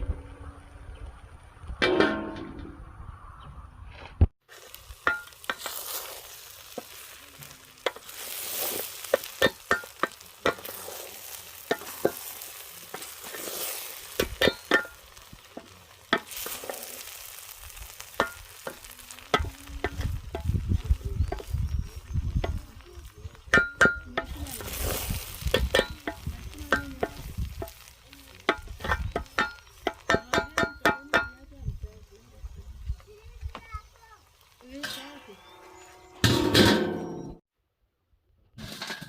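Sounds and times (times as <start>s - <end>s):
food sizzling in pot: 4.4s - 37.4s.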